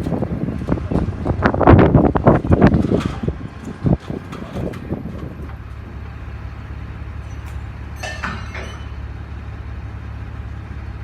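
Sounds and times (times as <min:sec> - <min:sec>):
heavy vehicle engine drone: 0:00.0 - 0:11.0.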